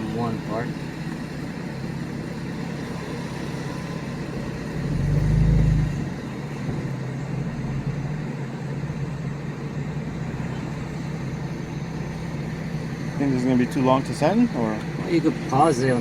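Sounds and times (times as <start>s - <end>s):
car engine at low revs: 0.0s - 16.0s.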